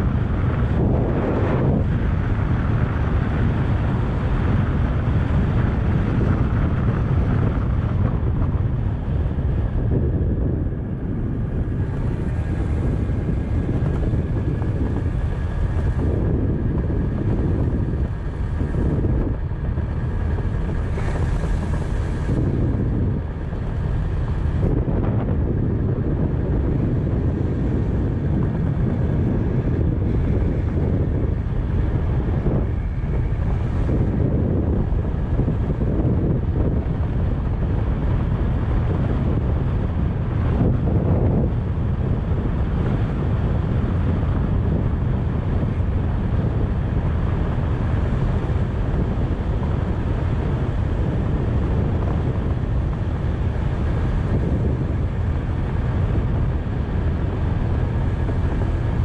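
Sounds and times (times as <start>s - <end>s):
motorbike engine running: 0.0s - 59.0s
wind rushing over microphone: 0.0s - 59.0s.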